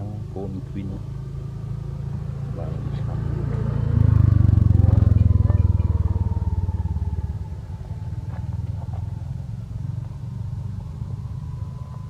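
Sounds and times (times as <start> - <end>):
small engine running: 1.2 - 12.0.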